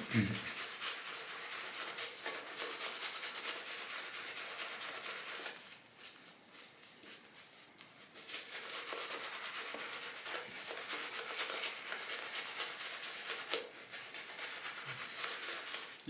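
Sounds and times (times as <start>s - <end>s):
shaving brush lathering cream: 0.0s - 16.0s.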